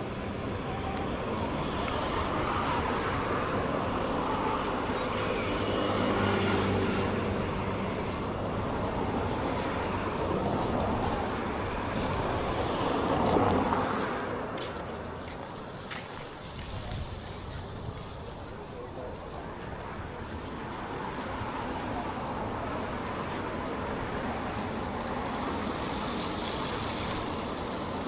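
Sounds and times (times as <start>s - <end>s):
vehicles driving past: 0.0s - 28.0s.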